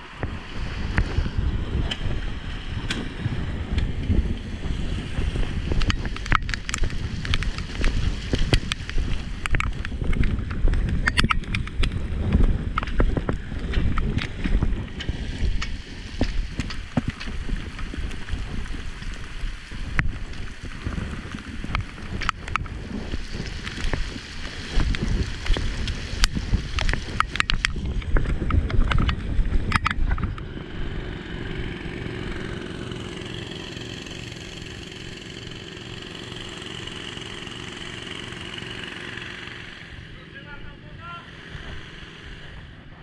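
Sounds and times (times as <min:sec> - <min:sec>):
wind rumbling on microphone: 0:00.0 - 0:43.0.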